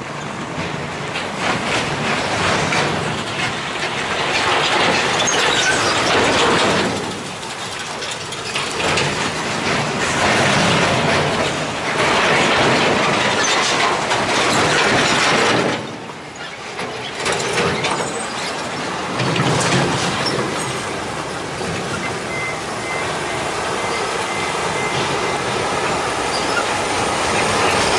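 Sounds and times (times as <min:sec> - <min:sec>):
truck engine labouring: 0:00.0 - 0:27.9
truck bodywork rattling: 0:00.2 - 0:27.9.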